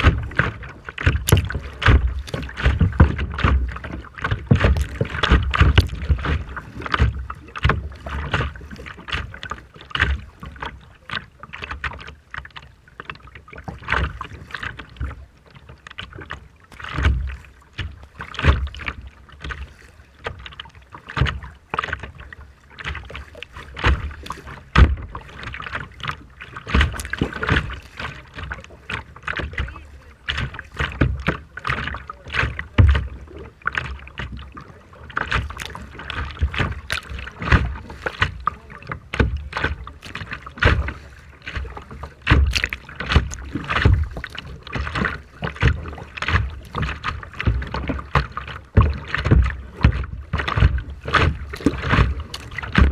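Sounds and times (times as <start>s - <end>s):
sea water splashing against boat: 0.0s - 52.9s.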